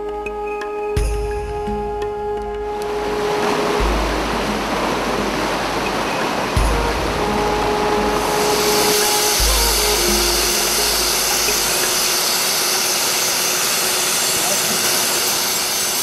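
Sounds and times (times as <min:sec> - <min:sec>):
river rapids rushing: 0:01.5 - 0:16.0
helicopter turbine whine: 0:02.9 - 0:16.0.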